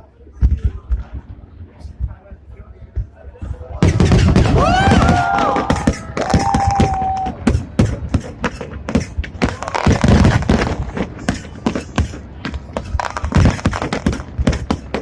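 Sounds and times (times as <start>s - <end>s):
fireworks bangs and crackles: 0.3s - 15.0s.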